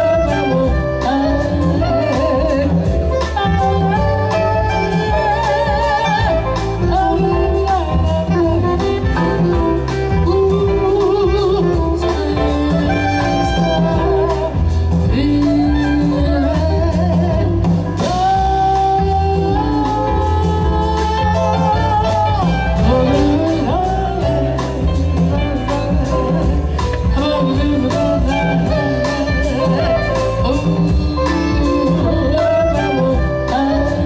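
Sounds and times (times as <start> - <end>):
band accompaniment: 0.0 - 34.0
person singing with vibrato: 0.0 - 34.0.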